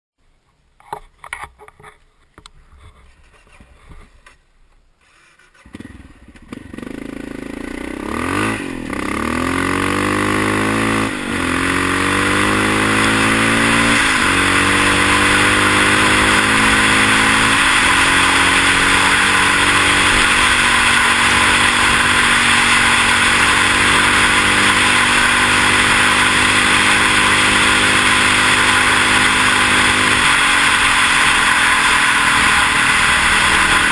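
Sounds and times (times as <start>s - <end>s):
motorcycle engine accelerating: 5.5s - 33.9s.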